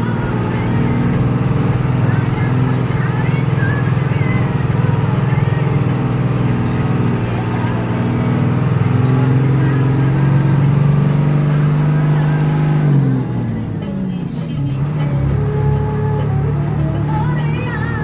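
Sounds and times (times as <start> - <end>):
bus diesel engine under load: 0.0 - 18.0.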